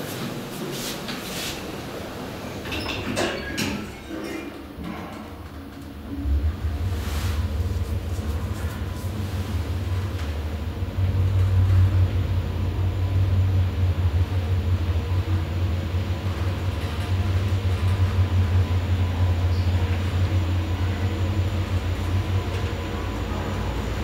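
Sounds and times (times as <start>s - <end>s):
elevator car humming: 0.0s - 24.0s.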